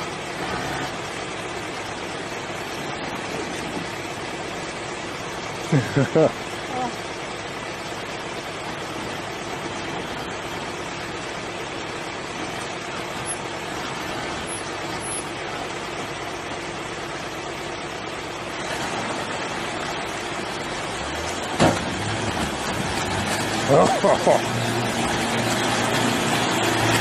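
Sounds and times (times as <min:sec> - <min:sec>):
truck engine running at low revs: 0:00.0 - 0:27.0.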